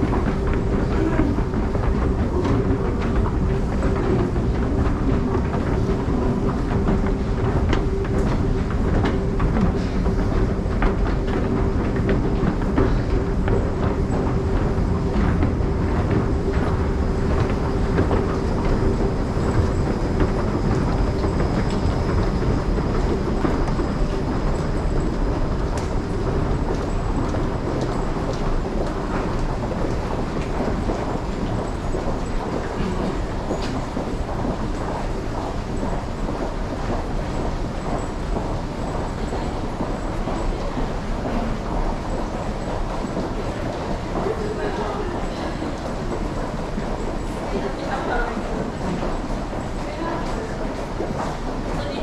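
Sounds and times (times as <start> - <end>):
low hum: 0.0 - 51.9
train rumbling on rails: 0.0 - 52.0.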